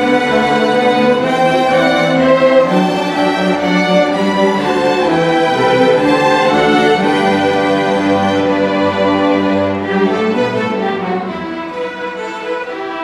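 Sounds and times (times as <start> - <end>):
string orchestra playing: 0.0 - 13.0.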